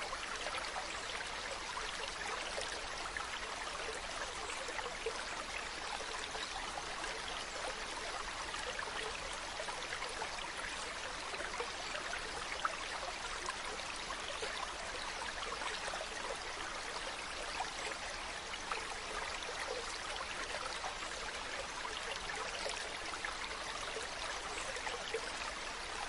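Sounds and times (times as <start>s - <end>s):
stream flowing: 0.0s - 26.0s.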